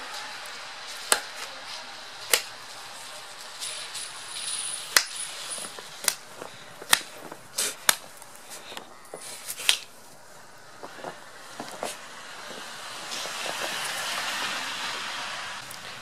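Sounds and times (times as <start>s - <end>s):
snow crunching: 0.0s - 16.0s.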